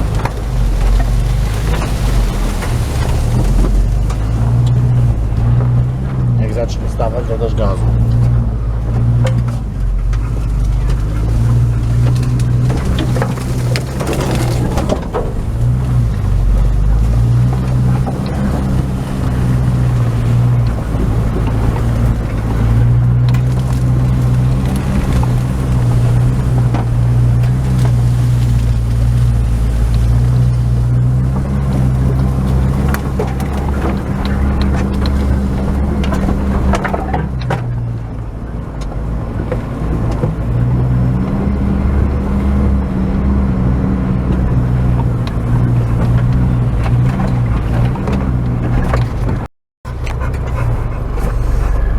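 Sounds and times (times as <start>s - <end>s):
body and suspension rattling: 0.0s - 51.9s
car engine running at low revs: 0.0s - 51.9s.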